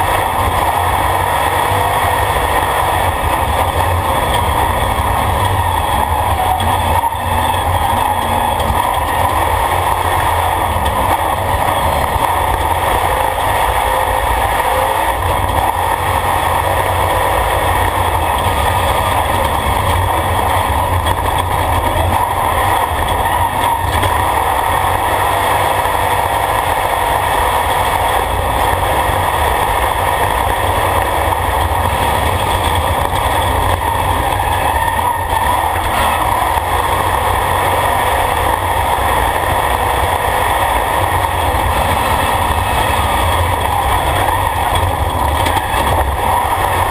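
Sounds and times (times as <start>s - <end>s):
loud engine noise: 0.0s - 46.9s
road noise: 0.0s - 46.9s.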